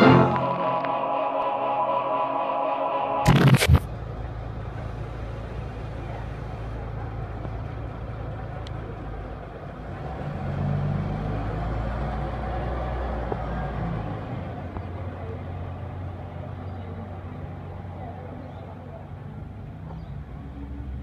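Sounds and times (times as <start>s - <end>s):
bus engine accelerating: 0.0s - 21.0s.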